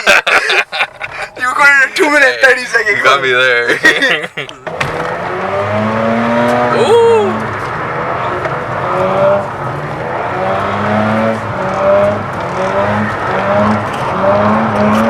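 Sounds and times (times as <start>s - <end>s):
car engine revving hard: 0.5s - 15.0s.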